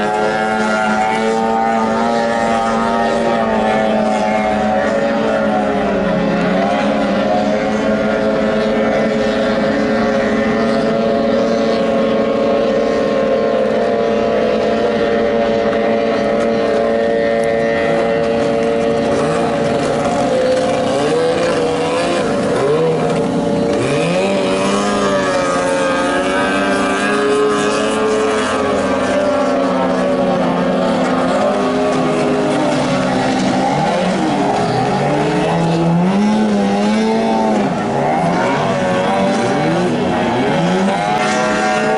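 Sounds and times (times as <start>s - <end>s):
outboard motor whining: 0.0s - 41.9s.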